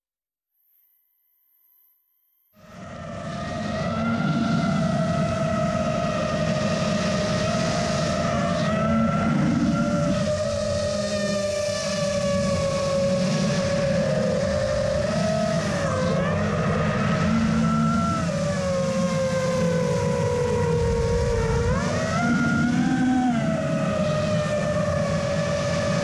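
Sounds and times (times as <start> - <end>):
drone motors whining: 2.6 - 26.0
wind rumble: 2.6 - 26.0.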